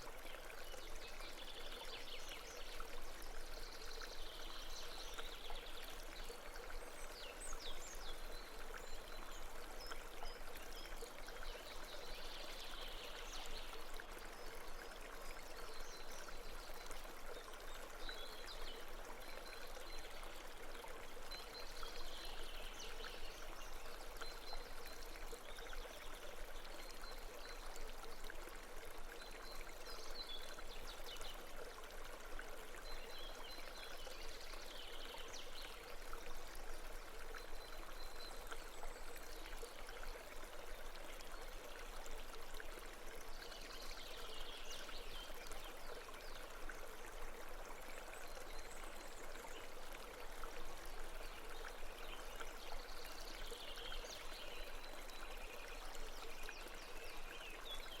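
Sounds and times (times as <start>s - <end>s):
babbling stream: 0.0s - 58.0s.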